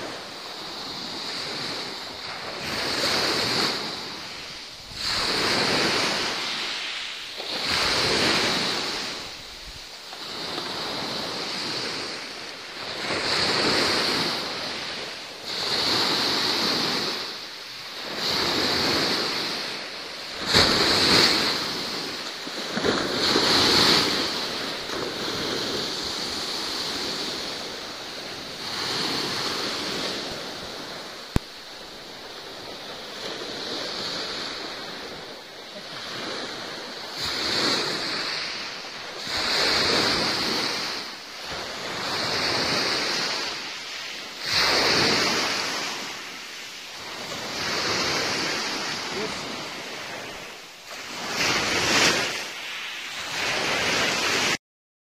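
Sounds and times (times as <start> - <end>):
sea waves washing in: 0.0 - 54.6.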